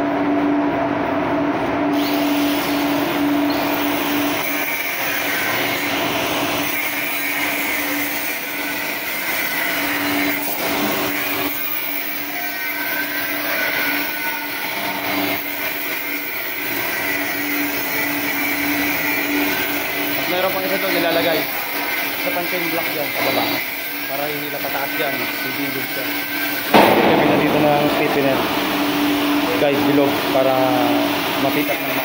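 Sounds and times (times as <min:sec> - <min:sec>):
angle grinder on steel: 0:01.9 - 0:32.0.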